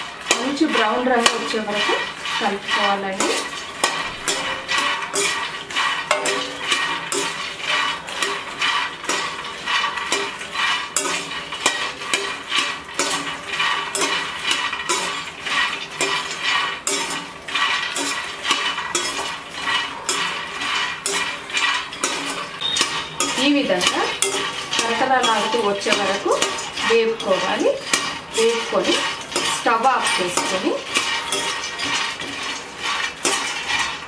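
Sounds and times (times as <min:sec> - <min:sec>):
metal spoon scraping a steel pan: 0:00.0 - 0:34.0.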